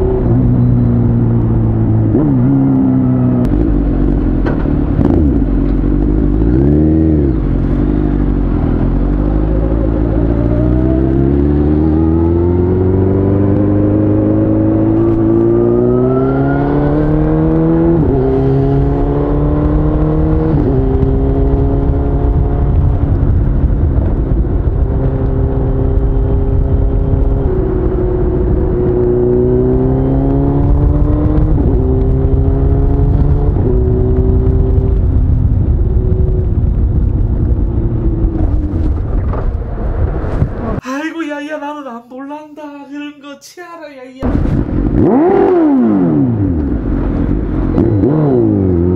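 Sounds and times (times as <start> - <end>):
low wind rumble: 0.0 - 40.8, 44.2 - 48.9
motorcycle engine accelerating: 0.0 - 40.8, 44.2 - 48.9.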